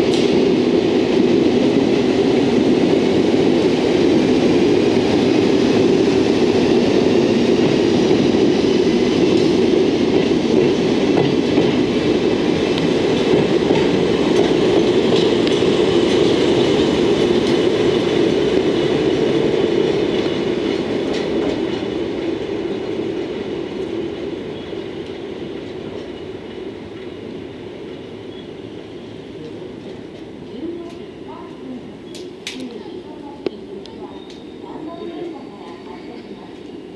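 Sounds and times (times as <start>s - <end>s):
freight train wheels on rails: 0.0s - 36.9s.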